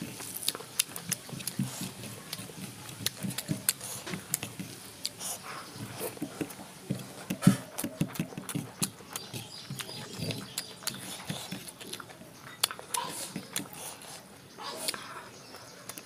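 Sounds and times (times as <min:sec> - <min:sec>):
fingers mixing rice on plate: 0:00.0 - 0:14.2
wet chewing and lip-smacking: 0:00.0 - 0:16.0.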